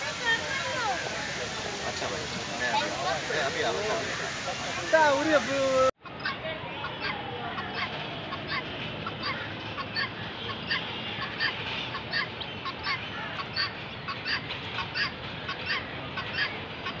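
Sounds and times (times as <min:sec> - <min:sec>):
guineafowl calling: 0:00.1 - 0:17.0.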